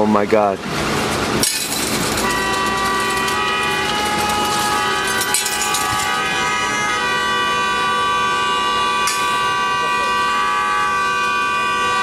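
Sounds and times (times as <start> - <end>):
car horns blaring: 1.5 - 12.0.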